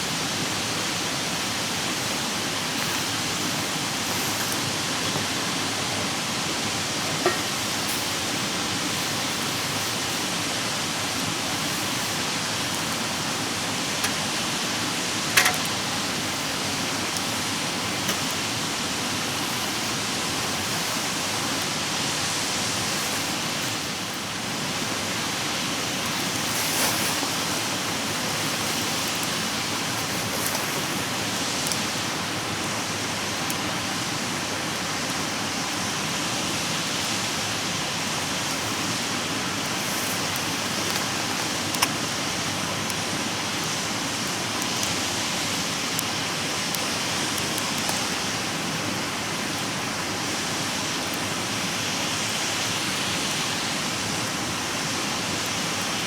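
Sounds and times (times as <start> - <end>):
fire rushing hiss: 0.0 - 56.0
campfire crackling and popping: 0.1 - 51.8.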